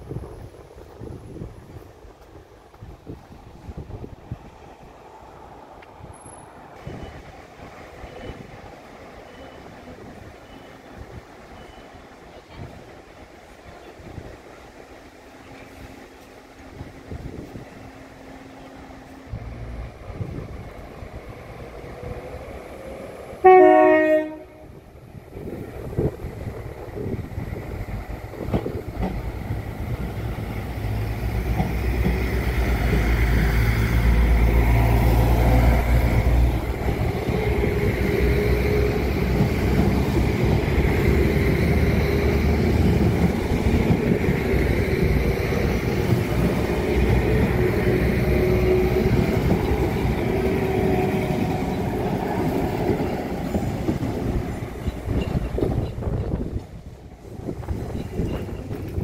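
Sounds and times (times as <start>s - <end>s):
diesel train engine rumble: 0.0s - 59.0s
train wheels on rails: 0.0s - 59.0s.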